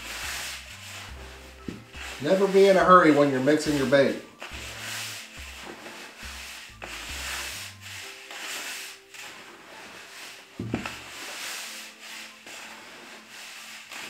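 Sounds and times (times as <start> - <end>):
powder stirred in a bucket: 0.0 - 14.0.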